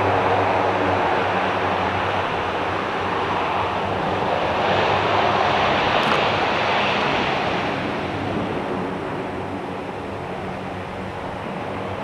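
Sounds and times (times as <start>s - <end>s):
jet engines roaring on takeoff: 0.0s - 12.0s.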